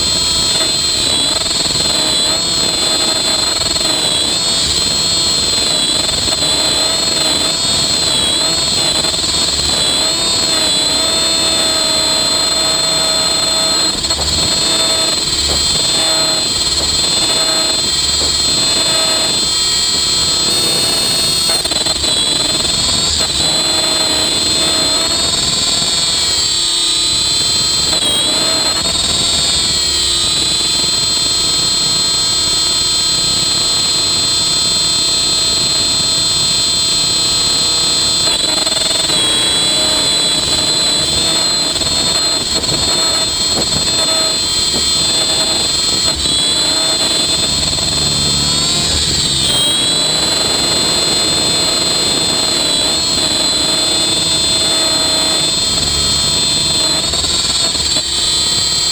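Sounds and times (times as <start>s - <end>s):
helicopter motor and gear whine: 0.0s - 58.9s.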